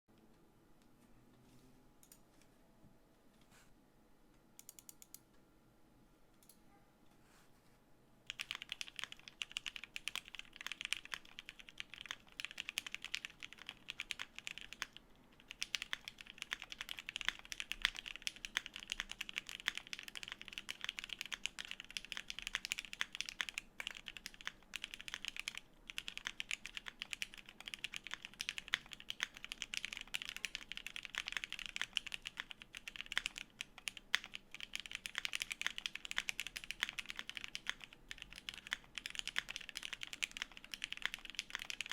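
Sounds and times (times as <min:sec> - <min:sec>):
mechanical keyboard typing: 0:04.6 - 0:05.2, 0:08.3 - 0:41.9.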